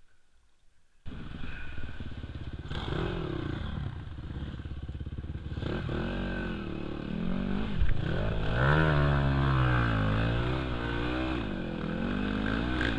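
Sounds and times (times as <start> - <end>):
dirt bike engine revving: 1.1 - 12.9.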